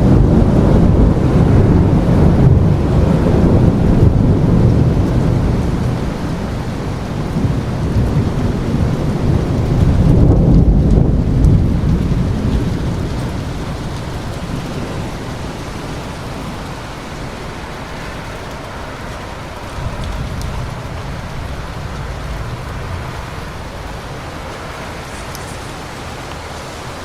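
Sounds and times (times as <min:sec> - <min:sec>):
heavy rain: 0:00.0 - 0:27.0
thunder rumbling: 0:00.0 - 0:27.0.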